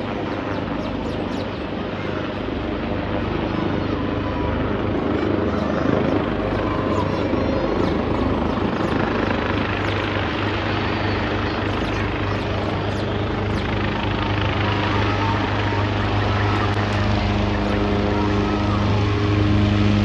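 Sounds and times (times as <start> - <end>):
helicopter landing: 0.0 - 20.0.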